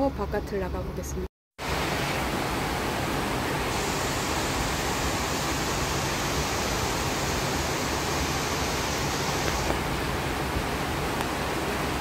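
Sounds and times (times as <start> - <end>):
heavy rain pouring: 1.6 - 12.0.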